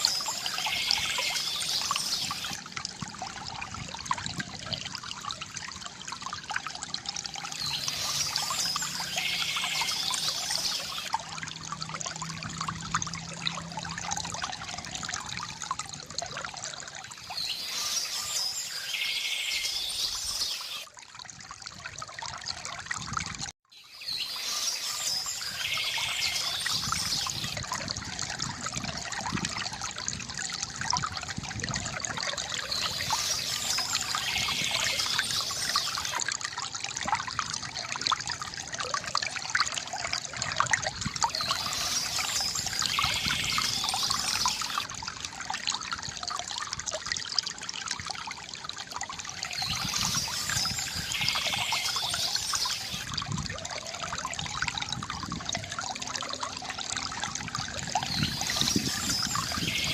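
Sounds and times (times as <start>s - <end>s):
fountain water trickling: 0.0s - 59.9s.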